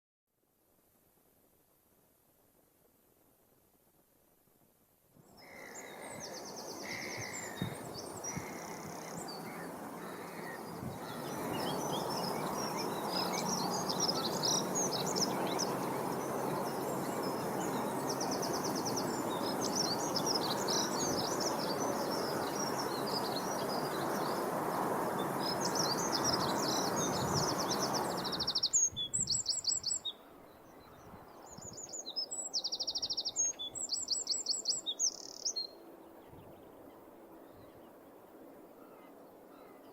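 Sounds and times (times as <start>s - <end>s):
steady background hiss: 0.5s - 39.9s
songbirds singing and trilling: 5.2s - 38.2s.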